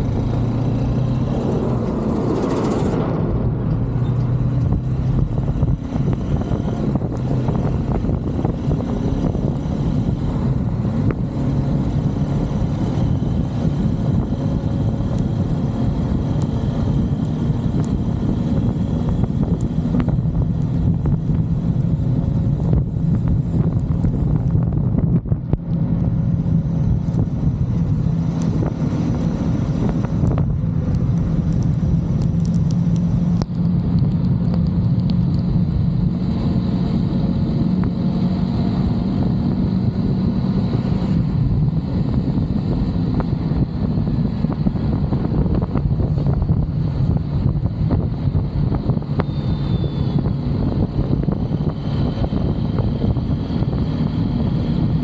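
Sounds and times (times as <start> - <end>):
road and wind noise: 0.0 - 55.0
vehicle driving drone: 0.0 - 55.0.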